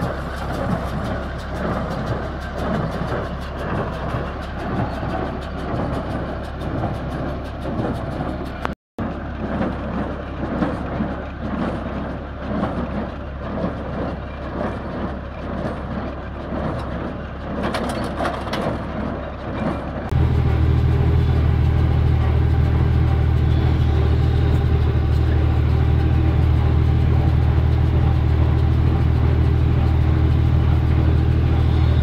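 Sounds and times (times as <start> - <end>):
baler mechanical clatter: 0.0 - 32.0
tractor engine hum: 0.0 - 32.0.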